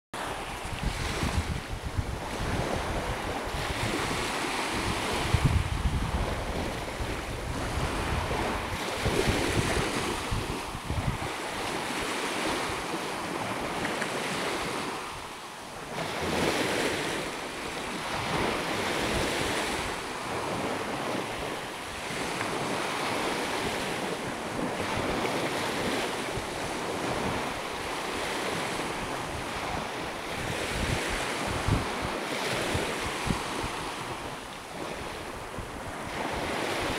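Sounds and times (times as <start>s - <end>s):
small waves breaking on sand: 0.2s - 36.9s
wind buffeting microphone: 0.2s - 36.9s.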